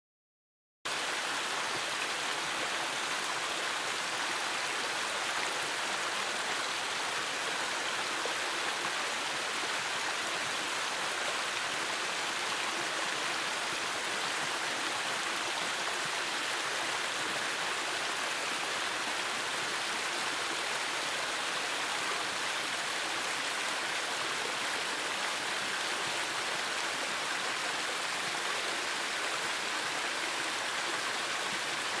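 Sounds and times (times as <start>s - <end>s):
waterfall splashing over rocks: 0.9s - 32.0s.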